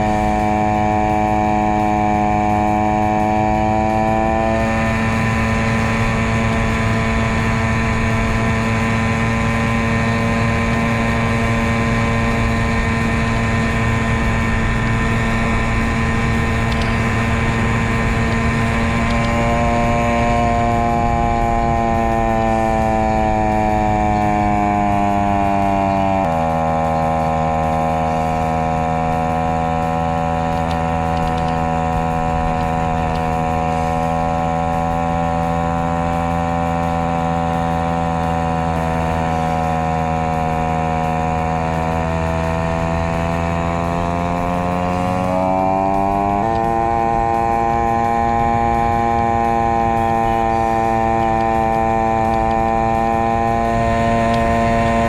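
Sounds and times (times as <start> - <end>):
small motorcycle engine pulling uphill: 0.0 - 55.0.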